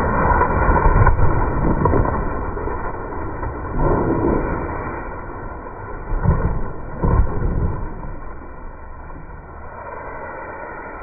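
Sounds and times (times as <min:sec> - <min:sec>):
car tyres rolling on wet bricks: 0:00.0 - 0:09.8.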